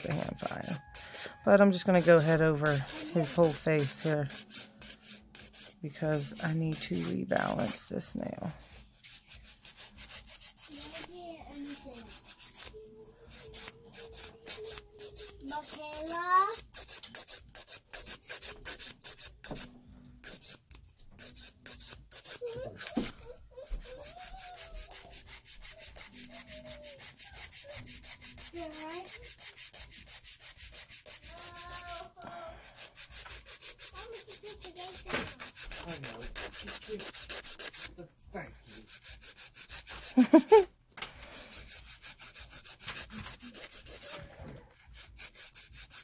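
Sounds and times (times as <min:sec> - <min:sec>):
hand file rasping on a nail: 0:00.0 - 0:07.8, 0:08.7 - 0:46.0.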